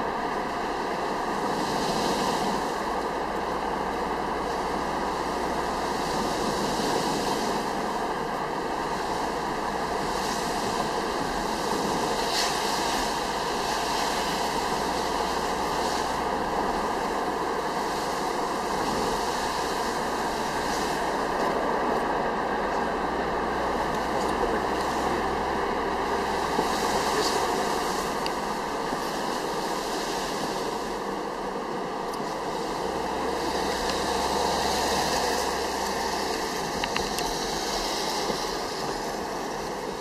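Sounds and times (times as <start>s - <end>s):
car engine hum: 0.0s - 40.0s
tyres hissing on wet road: 0.0s - 40.0s.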